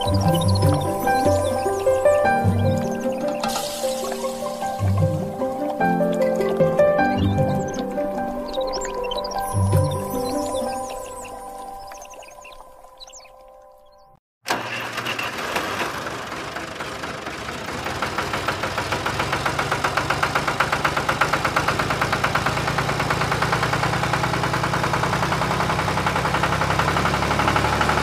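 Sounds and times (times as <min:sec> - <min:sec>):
tractor engine chugging: 0:00.0 - 0:10.9, 0:14.5 - 0:28.0.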